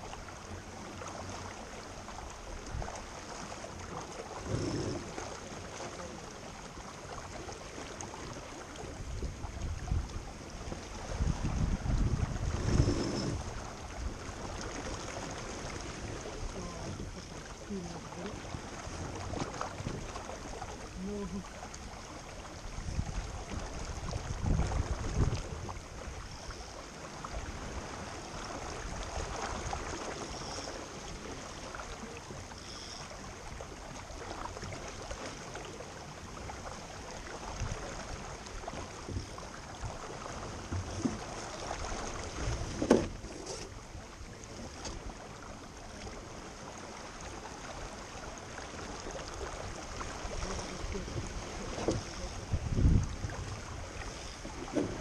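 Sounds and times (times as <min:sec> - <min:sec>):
low bumps of boat: 0:00.0 - 0:55.0
rushing water wash: 0:00.0 - 0:55.0
wind: 0:00.0 - 0:55.0.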